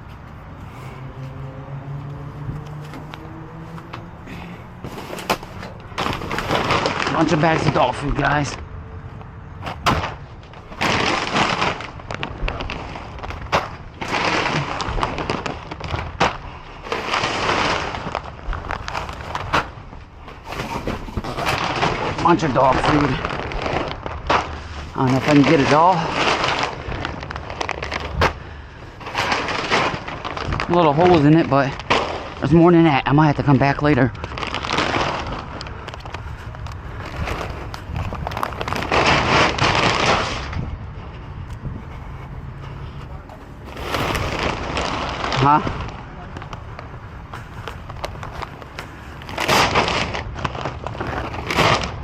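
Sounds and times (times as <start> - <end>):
bags and trash crinkling: 0.0 - 52.0.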